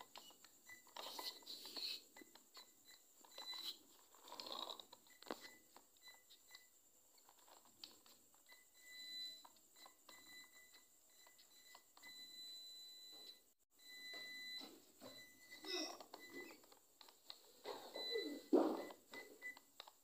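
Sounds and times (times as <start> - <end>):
faint electronic beeping: 0.0 - 20.0.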